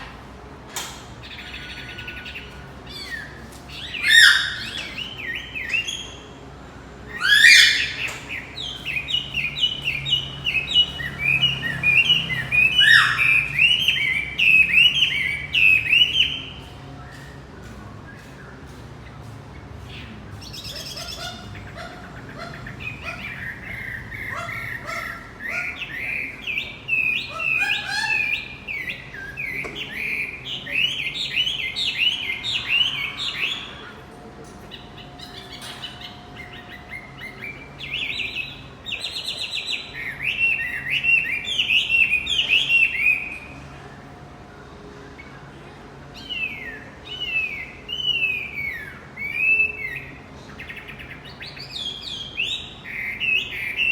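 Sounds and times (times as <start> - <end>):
songbird singing rapid chirps: 0.0 - 53.9.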